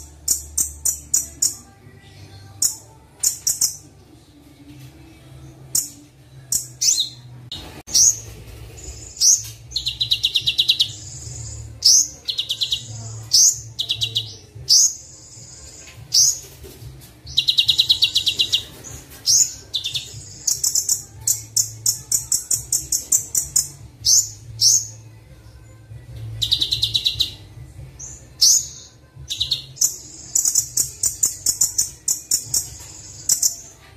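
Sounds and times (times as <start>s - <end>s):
bird chirps and trills: 0.0s - 4.0s, 5.7s - 16.6s, 17.2s - 25.1s, 26.3s - 33.8s.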